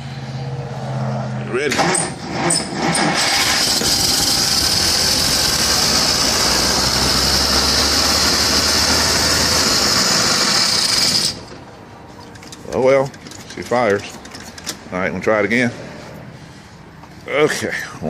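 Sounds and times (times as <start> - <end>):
car engine starting and running: 0.0 - 14.9.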